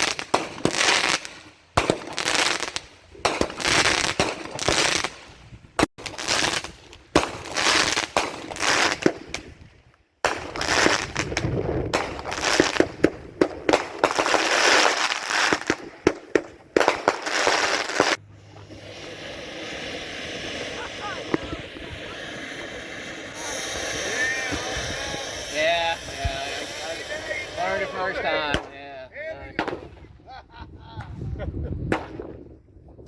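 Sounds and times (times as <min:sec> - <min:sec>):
fireworks bangs: 0:00.0 - 0:30.2, 0:31.8 - 0:32.5
fireworks crackling: 0:00.0 - 0:30.2.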